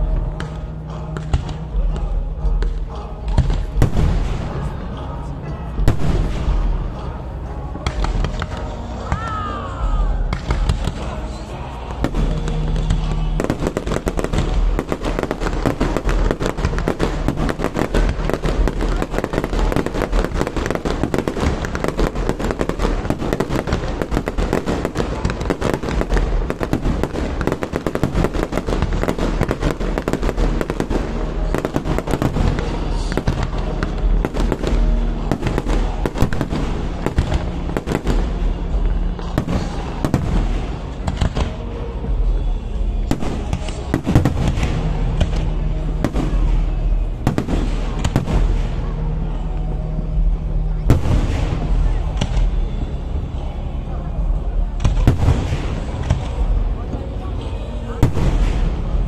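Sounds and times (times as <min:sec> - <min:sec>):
fireworks bursting: 0:00.0 - 0:57.1, 0:57.9 - 0:59.0.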